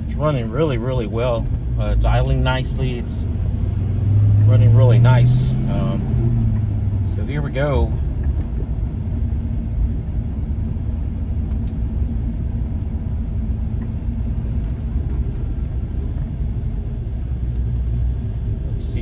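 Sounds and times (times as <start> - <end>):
car engine rumbling from inside cabin: 0.0 - 19.0.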